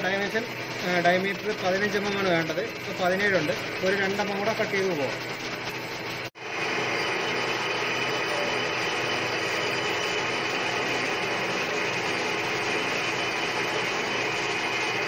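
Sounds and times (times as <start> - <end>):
lathe cutting metal: 0.0 - 15.0.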